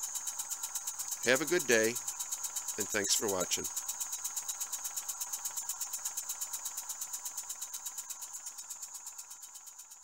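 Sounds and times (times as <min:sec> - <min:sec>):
steam engine exhaust chuffing: 0:00.0 - 0:10.0.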